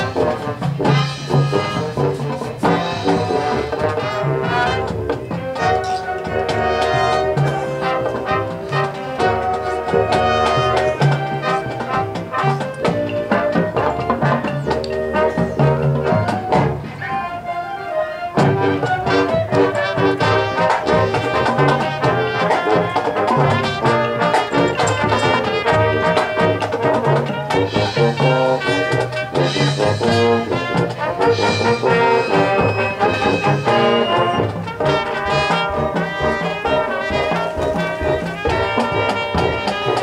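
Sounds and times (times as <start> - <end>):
percussion hits: 0.0 - 17.2, 18.4 - 40.0
brass playing loud held chords: 0.0 - 40.0.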